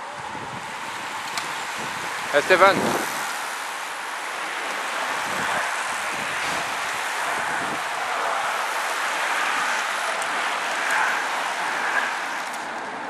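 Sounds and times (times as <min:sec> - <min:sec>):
bicycle tyres hissing on tarmac: 0:00.0 - 0:13.0
spoked wheels whirring: 0:00.8 - 0:13.0.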